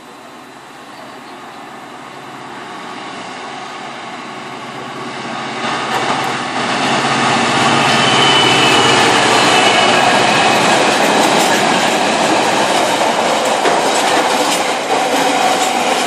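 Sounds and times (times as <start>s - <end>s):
diesel locomotive engine: 0.0s - 16.0s
train running on rails: 0.0s - 16.0s.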